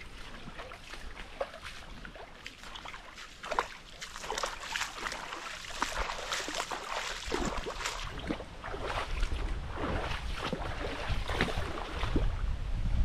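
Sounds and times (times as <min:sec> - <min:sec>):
shallow water splashing: 0:00.0 - 0:12.4.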